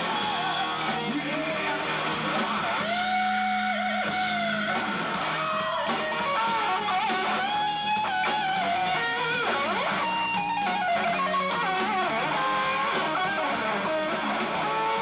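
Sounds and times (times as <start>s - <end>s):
electric guitar lead bending notes: 0.0s - 15.0s
hard rock band playing: 0.0s - 15.0s.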